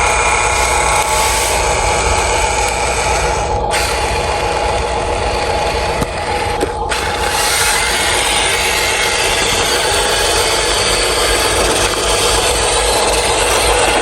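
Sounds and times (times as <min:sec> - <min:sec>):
constant hum: 0:00.0 - 0:14.0
toy vehicle motors whirring: 0:00.0 - 0:14.0.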